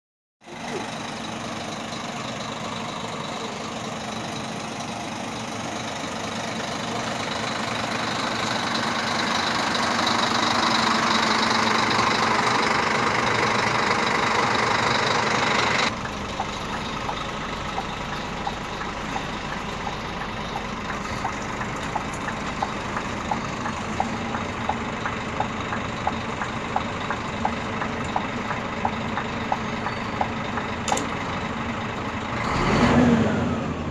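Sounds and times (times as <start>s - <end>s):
coach diesel engine idling: 0.4s - 32.7s
regular ticking: 0.7s - 32.4s.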